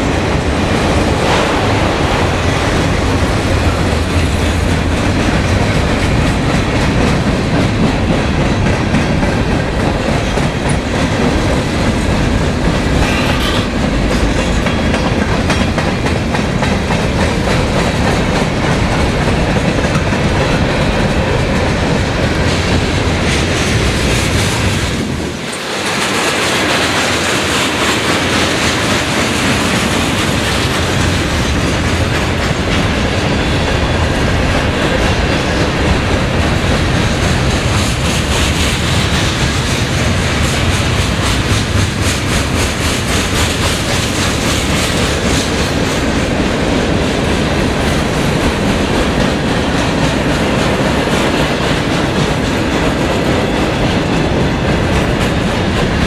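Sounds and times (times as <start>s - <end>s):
freight train wheels rumbling on rails: 0.0s - 56.0s
wheels clacking over rail joints: 0.0s - 56.0s.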